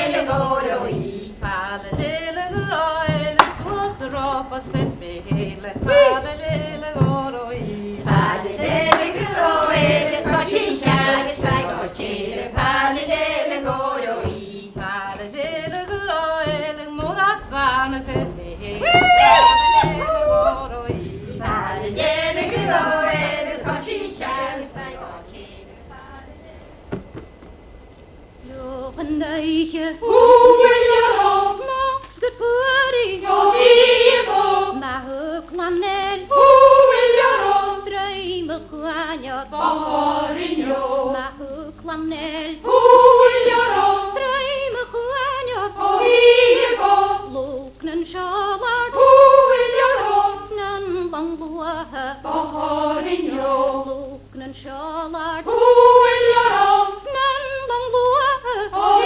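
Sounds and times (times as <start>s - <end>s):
woman singing unaccompanied: 0.0s - 26.9s, 28.4s - 59.0s.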